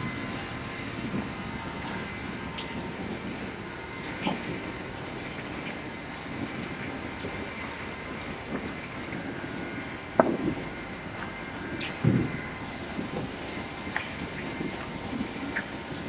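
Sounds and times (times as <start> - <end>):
saw machines running: 0.0 - 16.0.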